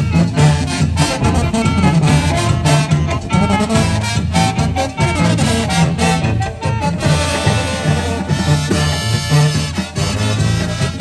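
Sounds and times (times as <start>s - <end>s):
drums keeping beat: 0.0s - 11.0s
trumpets and saxophones: 0.0s - 11.0s
tubas playing bass line: 0.0s - 11.0s.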